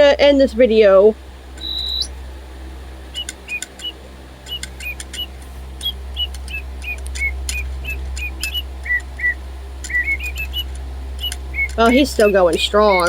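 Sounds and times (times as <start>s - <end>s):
electronic toy bird chirps: 1.6s - 2.2s, 3.1s - 13.0s.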